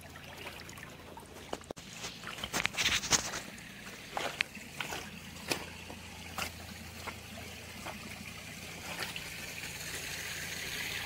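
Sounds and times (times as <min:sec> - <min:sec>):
small splashes and knocks: 0:00.0 - 0:09.8
water trickling: 0:00.0 - 0:11.0.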